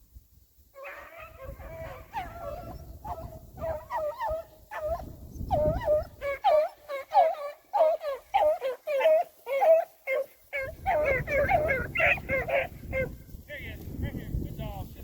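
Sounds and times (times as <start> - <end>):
hunting dogs yelping: 0.8 - 13.4.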